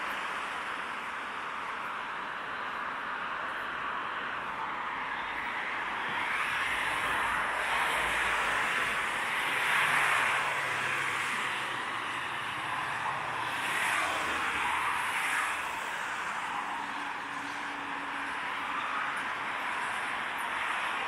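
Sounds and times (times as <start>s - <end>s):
cars passing close by: 0.0s - 21.0s
road traffic: 0.0s - 21.0s.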